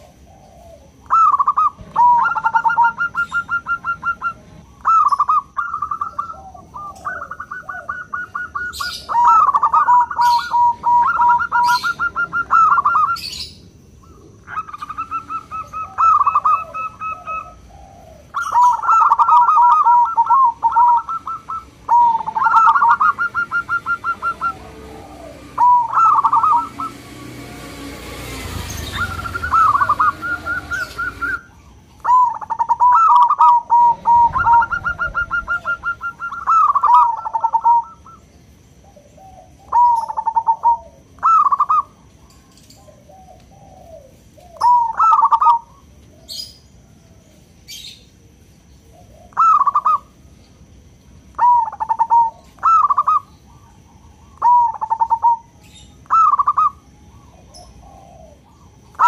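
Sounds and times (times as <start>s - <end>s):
dove cooing: 0.0s - 48.0s, 48.9s - 50.2s, 51.3s - 59.0s.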